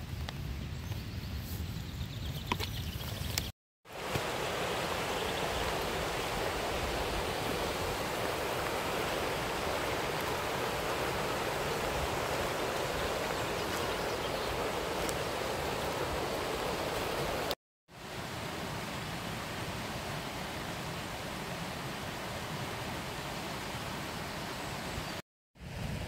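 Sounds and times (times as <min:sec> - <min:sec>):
river rushing over boulders: 0:03.9 - 0:25.1.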